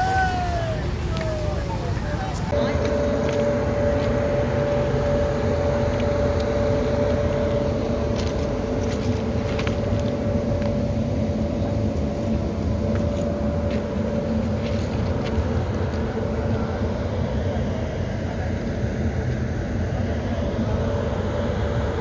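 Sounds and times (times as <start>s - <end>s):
low rumble: 0.0s - 22.0s
mechanical hum: 0.0s - 22.0s.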